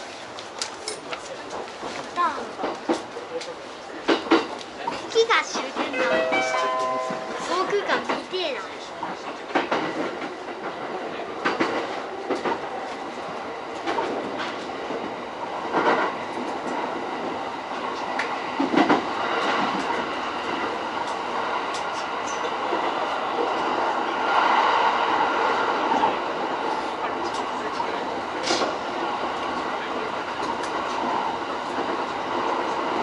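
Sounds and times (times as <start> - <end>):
train running noise: 0.0 - 33.0.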